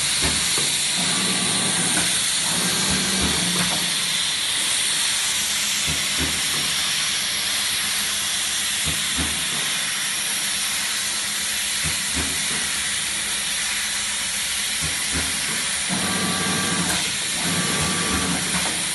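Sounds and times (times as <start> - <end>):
machine hissing: 0.0 - 18.9.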